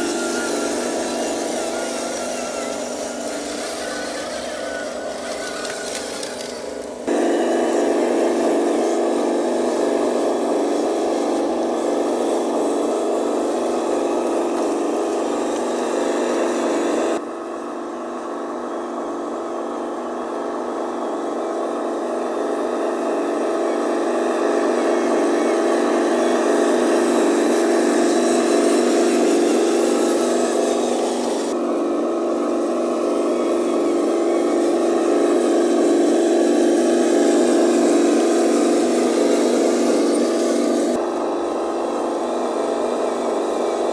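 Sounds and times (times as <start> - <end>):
toy truck motor whirring: 0.0 - 17.2, 21.2 - 43.9.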